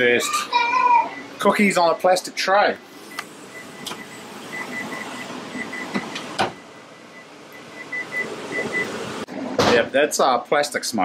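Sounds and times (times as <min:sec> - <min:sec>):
fan-like mechanical whir: 0:00.0 - 0:09.8.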